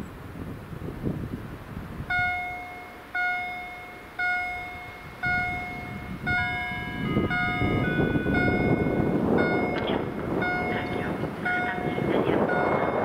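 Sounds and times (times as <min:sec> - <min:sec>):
level crossing warning bell: 0:02.1 - 0:13.0
second bell at different pitch: 0:02.1 - 0:13.0.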